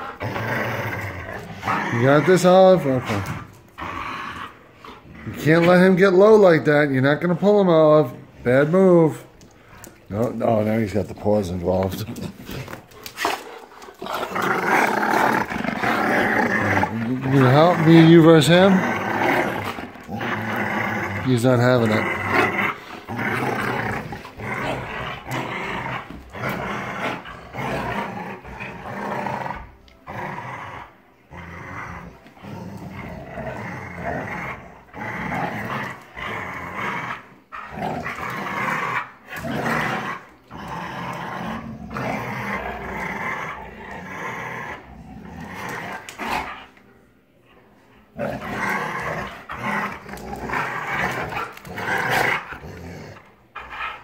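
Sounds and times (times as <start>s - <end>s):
dogs growling in play: 0.0s - 54.0s.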